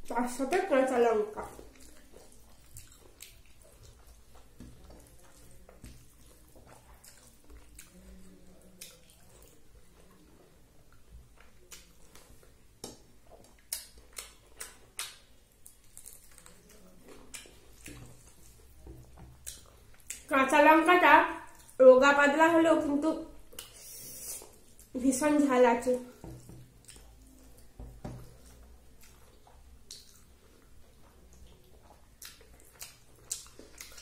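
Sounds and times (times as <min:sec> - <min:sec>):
chewing and wet mouth noises: 0:00.0 - 0:20.3, 0:21.4 - 0:21.8, 0:23.4 - 0:25.0, 0:26.1 - 0:34.0.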